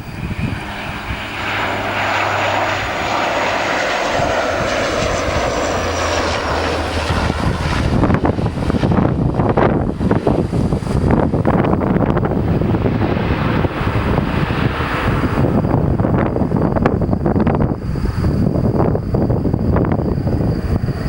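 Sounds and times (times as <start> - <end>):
high engine whine: 0.0 - 21.0
turboprop plane passing: 0.0 - 21.0
wind buffeting microphone: 0.0 - 21.0.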